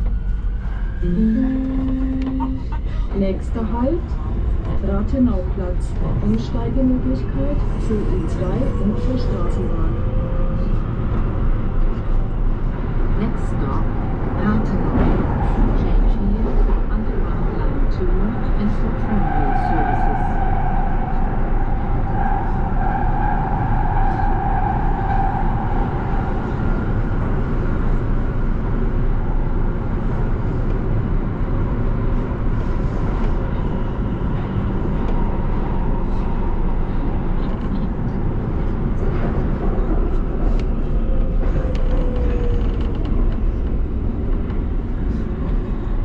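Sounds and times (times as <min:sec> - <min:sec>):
steady train whine: 0:00.0 - 0:46.0
wheels rumbling on rails: 0:00.0 - 0:46.0.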